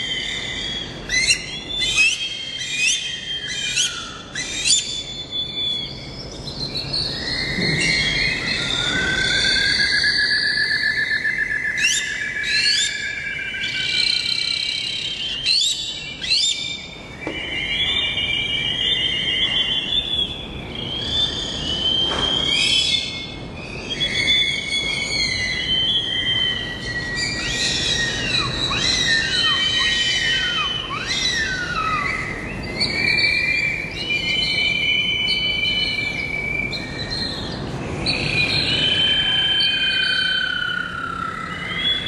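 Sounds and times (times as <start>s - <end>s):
birds calling and singing: 0.0s - 42.0s
downward-swooping bird calls: 0.0s - 42.0s.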